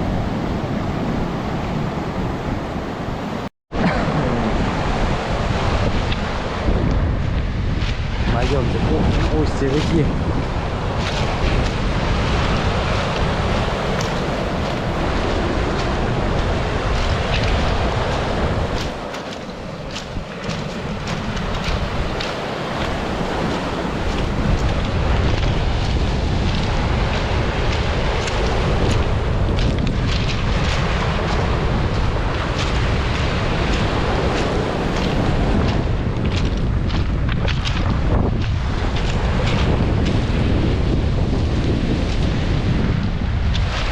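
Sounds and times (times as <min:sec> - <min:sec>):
sea surf: 0:00.0 - 0:43.9
strong wind buffeting microphone: 0:00.0 - 0:43.9.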